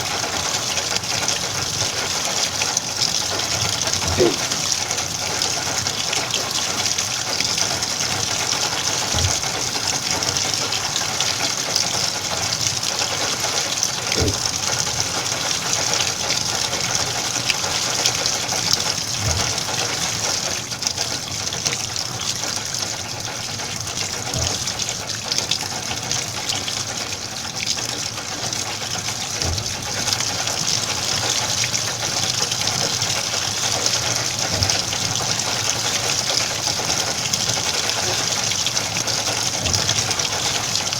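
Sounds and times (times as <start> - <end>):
washing machine filling with water: 0.0 - 40.9.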